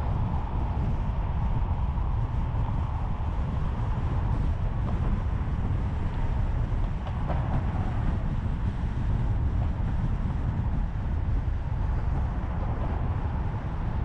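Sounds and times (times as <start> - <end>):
road tyre and wind noise: 0.0 - 14.0
surrounding traffic: 0.0 - 14.0.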